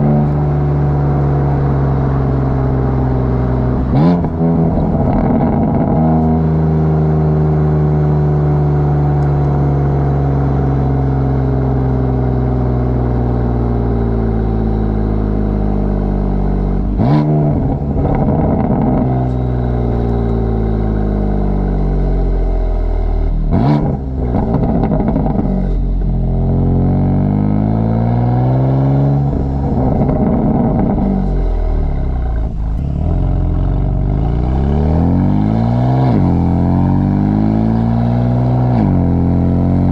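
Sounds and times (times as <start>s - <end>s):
car exhaust while driving: 0.0s - 39.9s.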